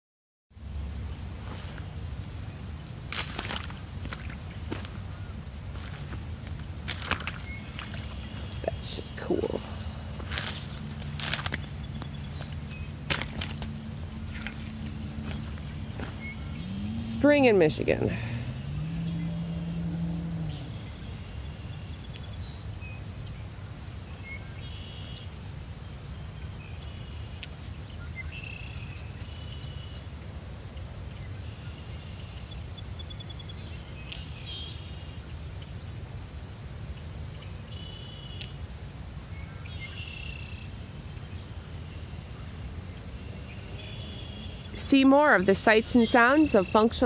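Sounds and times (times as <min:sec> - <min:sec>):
low outdoor background rumble: 0:00.6 - 0:47.0
songbirds singing: 0:01.0 - 0:36.0, 0:36.8 - 0:47.0.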